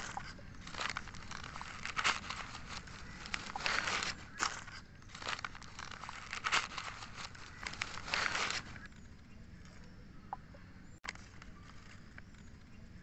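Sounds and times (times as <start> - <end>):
newspaper crinkling and rustling: 0.0 - 8.9, 11.1 - 12.7.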